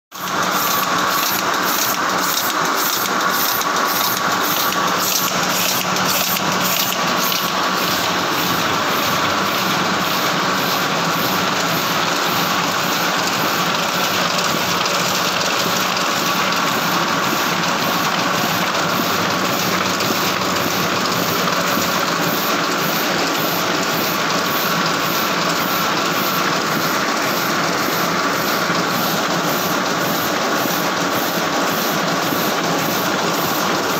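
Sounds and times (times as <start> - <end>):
printing press clattering: 0.2 - 33.9.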